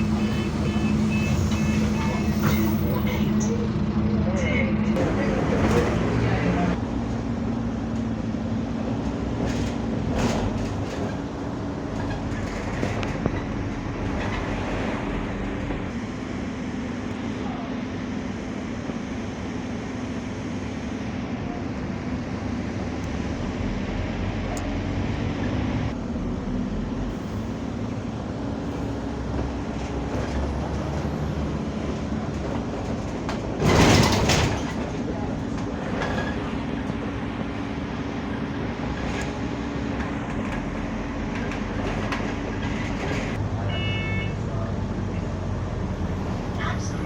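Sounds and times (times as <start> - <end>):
vehicle running noise: 0.0 - 47.0.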